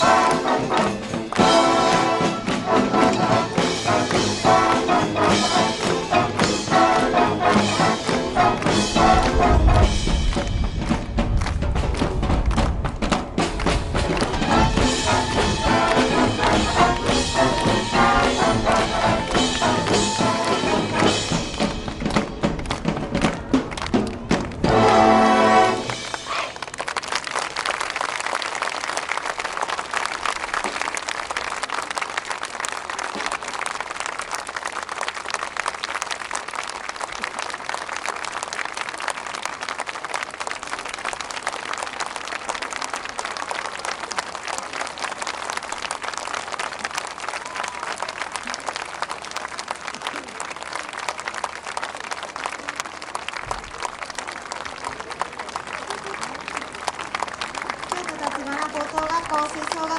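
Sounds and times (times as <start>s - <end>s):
large audience clapping: 0.0s - 59.9s.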